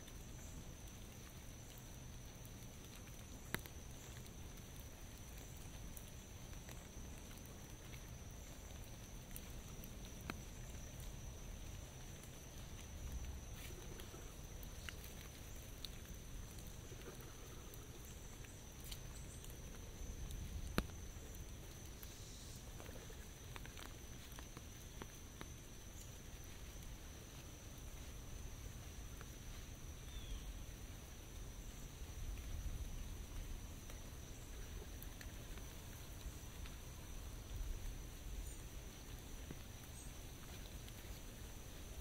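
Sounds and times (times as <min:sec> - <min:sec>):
rain tapping on an umbrella: 0:00.0 - 0:42.0.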